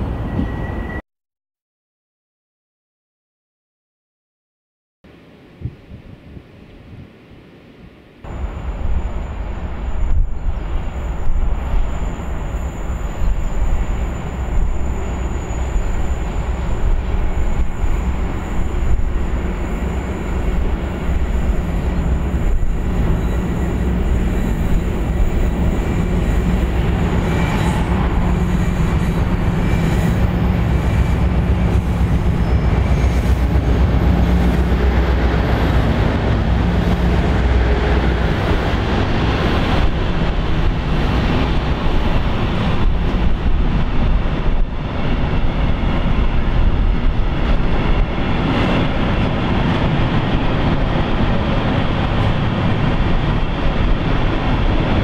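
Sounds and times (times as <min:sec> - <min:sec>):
diesel locomotives droning: 0:08.2 - 0:55.0.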